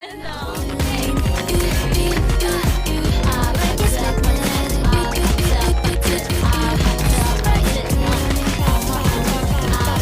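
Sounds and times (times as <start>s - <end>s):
pop music with steady beat: 0.0s - 10.0s.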